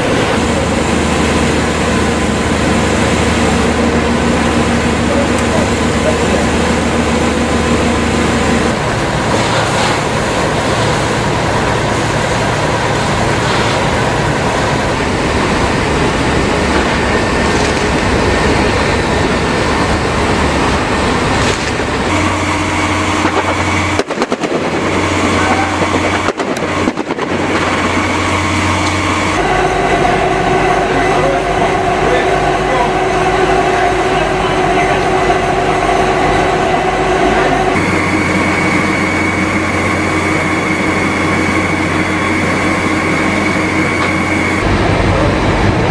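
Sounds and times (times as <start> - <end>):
engine hum: 0.0 - 45.9
loud steady noise: 0.0 - 45.9.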